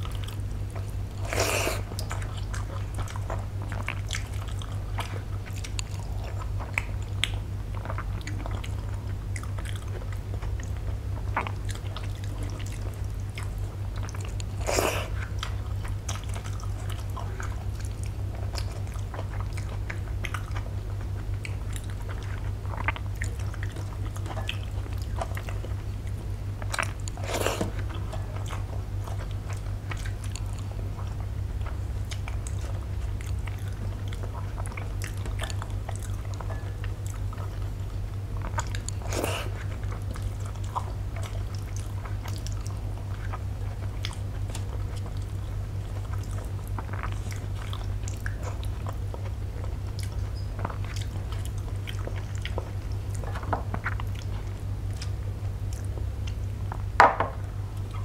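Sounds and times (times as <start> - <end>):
chewing food: 0.0 - 58.0
steady low hum: 0.0 - 58.0.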